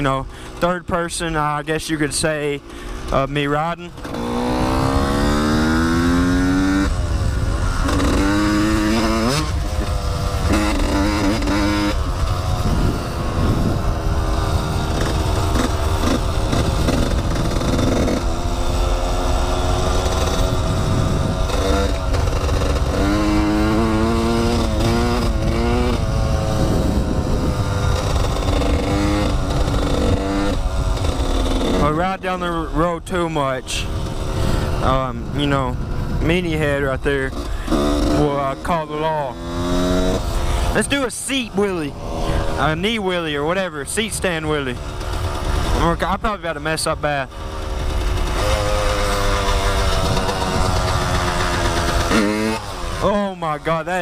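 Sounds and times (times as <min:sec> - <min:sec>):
dirt bike engine accelerating: 0:00.0 - 0:54.0.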